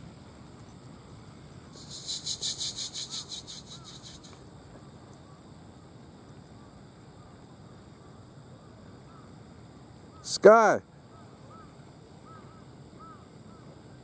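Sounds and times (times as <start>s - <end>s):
faint high insect hum: 0.0s - 14.0s
insect high trill: 0.0s - 14.0s.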